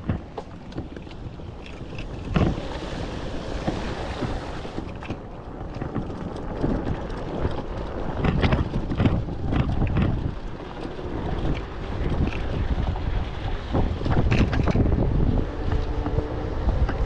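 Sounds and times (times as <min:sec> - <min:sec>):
river water sloshing: 0:00.0 - 0:17.0
wind buffeting microphone: 0:00.0 - 0:17.0.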